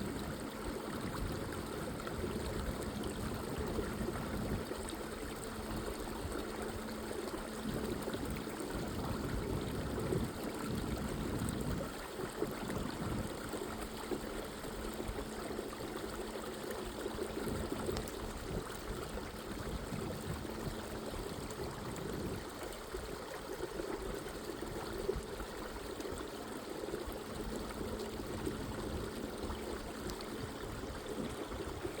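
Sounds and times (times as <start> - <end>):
creek water flowing: 0.0 - 32.0.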